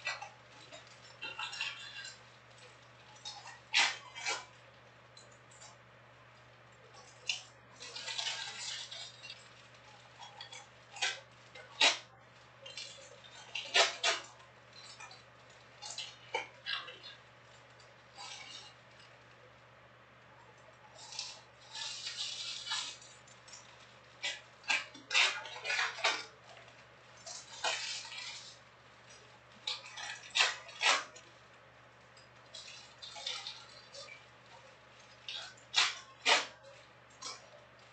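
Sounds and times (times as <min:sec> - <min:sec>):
foil wrappers crinkling: 0:00.0 - 0:04.8, 0:06.8 - 0:19.4, 0:20.6 - 0:37.9.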